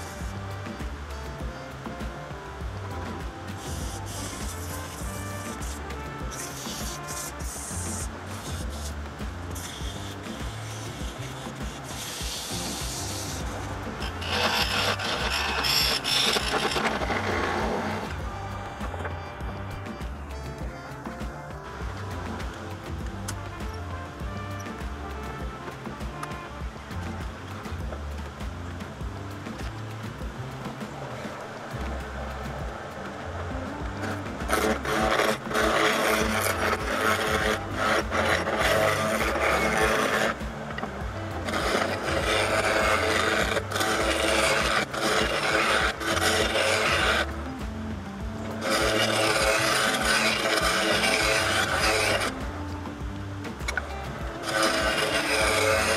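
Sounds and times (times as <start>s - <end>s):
parting tool scraping wood on lathe: 0.0s - 30.1s, 33.4s - 55.9s
background music: 0.0s - 55.9s.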